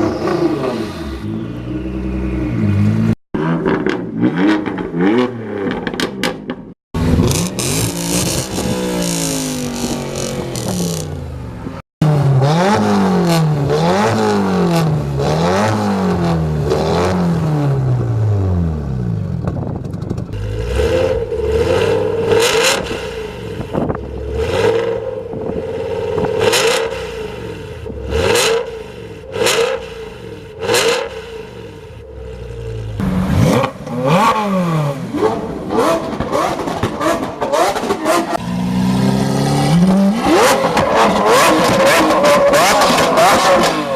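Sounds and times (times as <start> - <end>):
car engine revving: 7.0 - 43.9.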